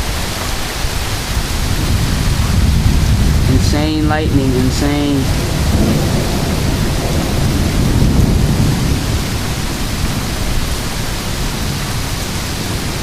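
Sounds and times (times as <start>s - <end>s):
heavy rain pouring: 0.0s - 13.0s
thunder rumbling: 0.8s - 13.0s.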